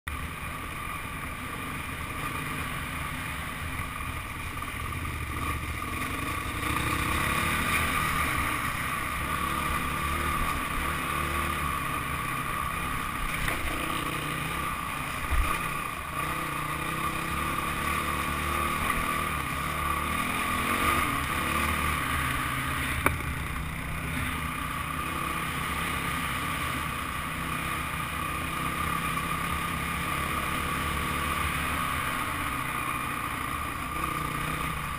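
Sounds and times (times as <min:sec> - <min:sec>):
dirt bike engine running: 0:00.1 - 0:34.9.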